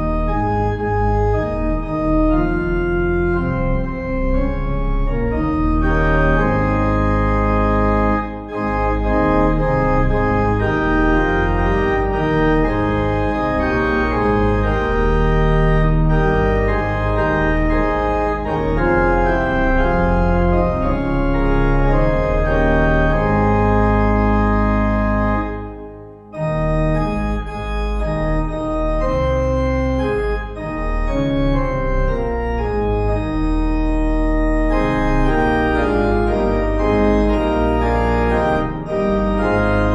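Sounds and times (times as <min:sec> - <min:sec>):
organ playing held chords: 0:00.0 - 0:39.9.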